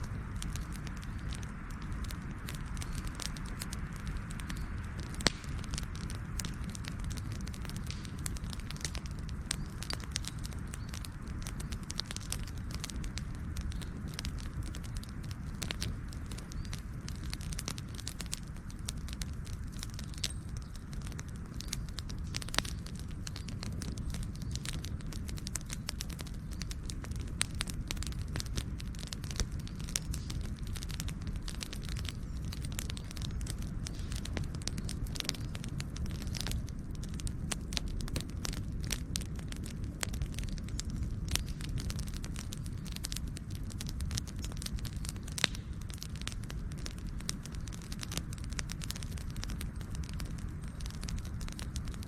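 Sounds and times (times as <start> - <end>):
campfire crackling: 0.0 - 52.0
steady low rumble: 0.0 - 52.0.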